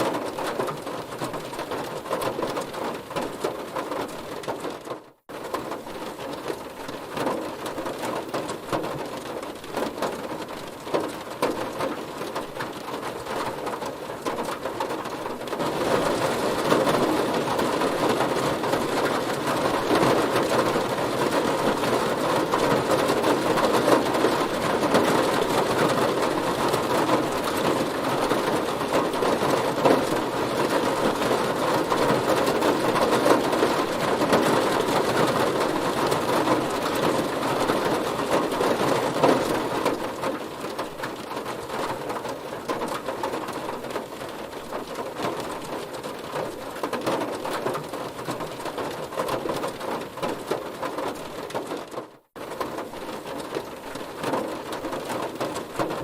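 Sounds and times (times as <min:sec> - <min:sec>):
heavy rain on a car: 0:00.0 - 0:56.0.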